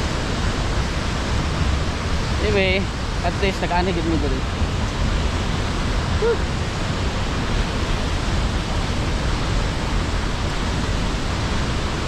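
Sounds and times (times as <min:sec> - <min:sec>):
waterfall and rapids rushing: 0:00.0 - 0:12.0.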